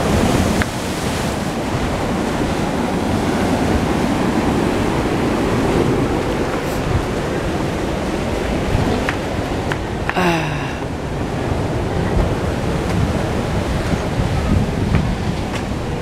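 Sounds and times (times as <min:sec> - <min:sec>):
ocean surf: 0:00.0 - 0:16.0
wind buffeting microphone: 0:00.0 - 0:16.0.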